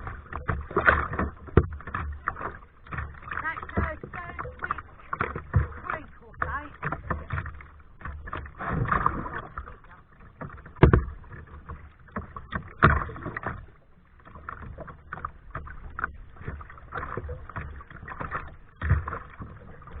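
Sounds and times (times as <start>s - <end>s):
paddle splashing water: 0.0s - 20.0s.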